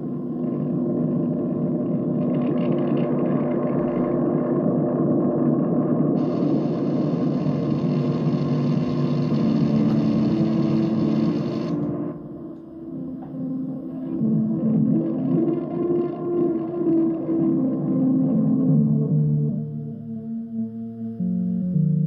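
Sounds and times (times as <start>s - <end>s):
electrical droning hum: 0.0s - 22.0s.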